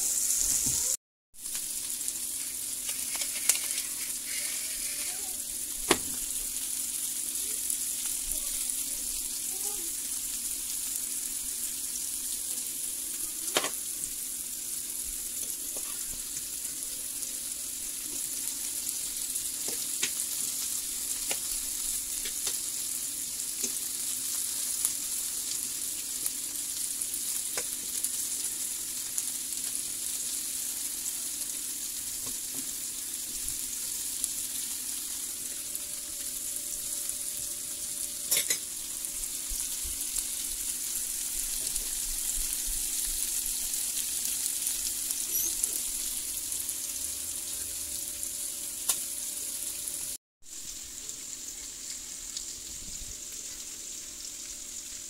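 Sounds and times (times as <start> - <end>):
meat and potatoes sizzling in pan: 0.0 - 55.0.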